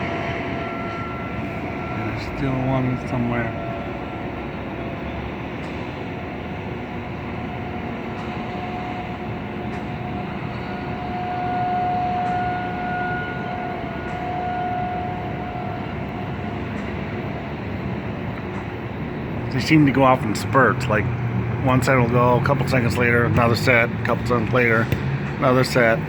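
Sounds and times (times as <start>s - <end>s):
city noise hum: 0.0s - 26.0s
distant warning siren: 0.0s - 26.0s.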